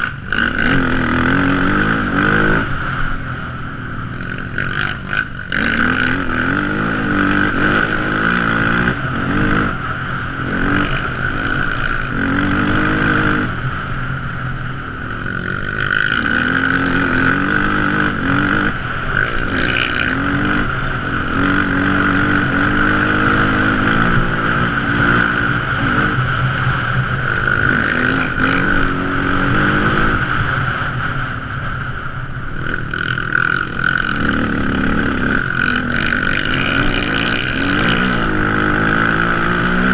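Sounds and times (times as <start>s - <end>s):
atv engine running: 0.0s - 39.9s
steady high whine: 0.0s - 39.9s.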